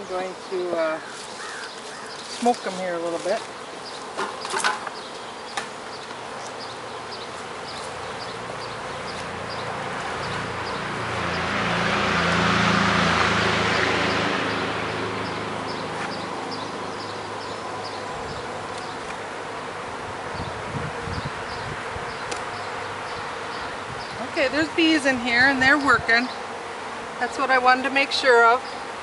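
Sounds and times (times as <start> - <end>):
honeybees buzzing: 0.0 - 29.0
low drone of bees flying close: 0.0 - 29.0.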